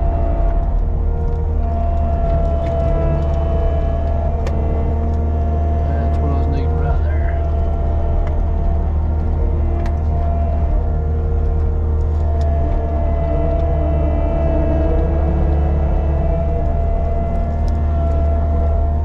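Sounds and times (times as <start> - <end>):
diesel engine rumbling: 0.0 - 19.0
high whine: 0.0 - 19.0.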